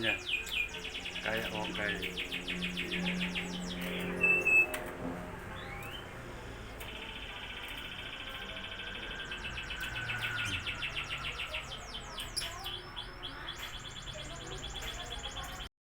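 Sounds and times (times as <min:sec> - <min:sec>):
downward-sweeping bird notes: 0:00.0 - 0:15.6
lovebirds chirping: 0:00.0 - 0:15.7.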